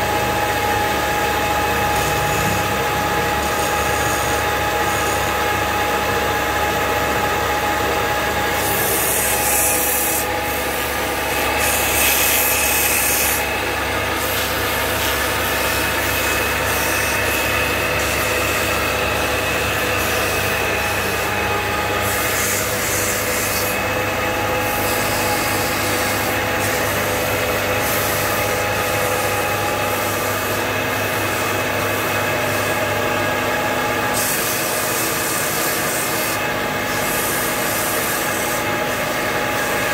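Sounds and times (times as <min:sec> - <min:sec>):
wood lathe running: 0:00.0 - 0:39.9
turning tool cutting wood: 0:00.4 - 0:39.9.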